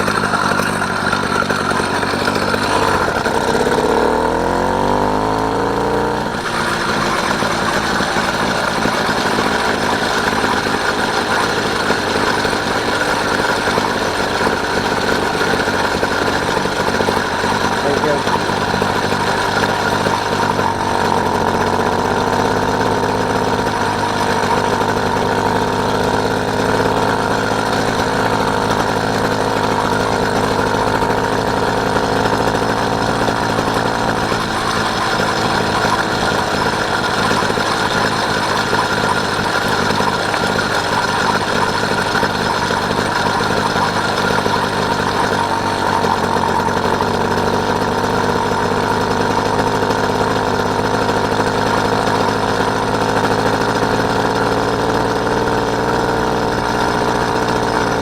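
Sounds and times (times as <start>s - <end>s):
small motorbike engine running: 0.0s - 58.0s.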